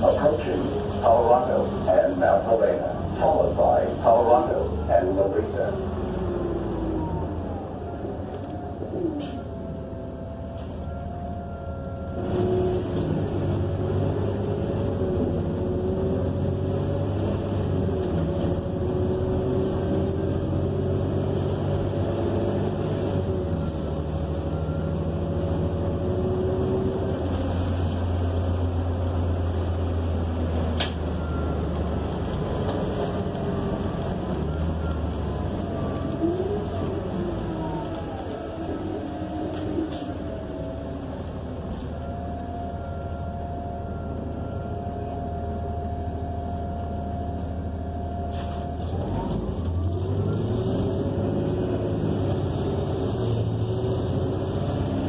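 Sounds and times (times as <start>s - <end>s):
bus engine and transmission whine: 0.0s - 55.0s.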